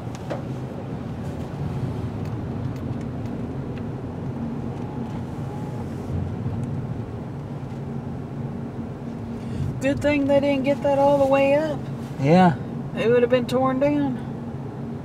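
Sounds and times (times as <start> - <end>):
tyres on wet road: 0.0 - 14.4
car road noise: 0.0 - 15.0.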